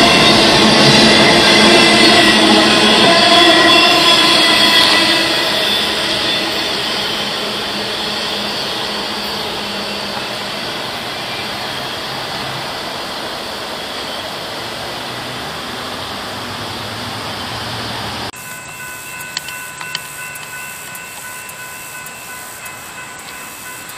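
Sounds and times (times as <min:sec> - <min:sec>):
freight train rolling on rails: 0:00.0 - 0:23.9.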